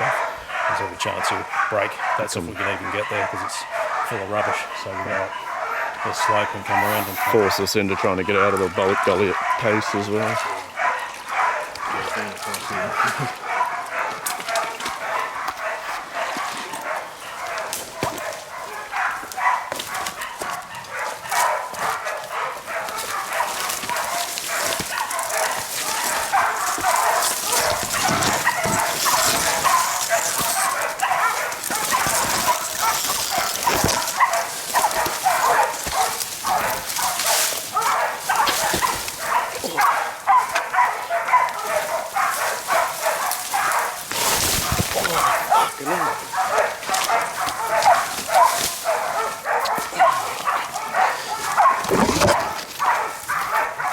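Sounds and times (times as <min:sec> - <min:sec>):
dogs barking rapidly: 0:00.0 - 0:53.9.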